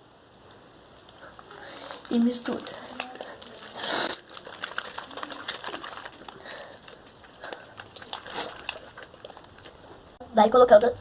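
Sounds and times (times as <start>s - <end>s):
slime swishes: 0.9s - 10.1s.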